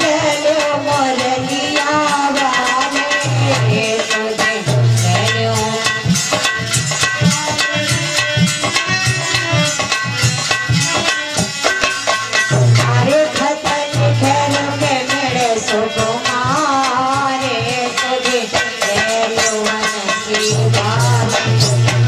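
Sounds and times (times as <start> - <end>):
hand drum beat: 0.0 - 22.0
harmonium playing: 0.0 - 22.0.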